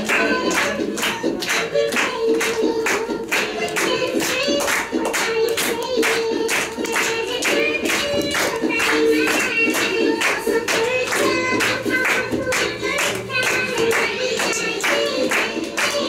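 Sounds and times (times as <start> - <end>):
audience clapping in time: 0.0 - 16.0
song with singing: 0.0 - 16.0.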